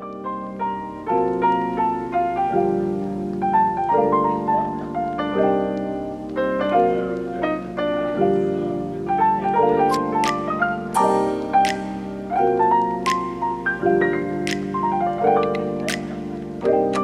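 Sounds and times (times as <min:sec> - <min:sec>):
slow piano piece: 0:00.0 - 0:17.0.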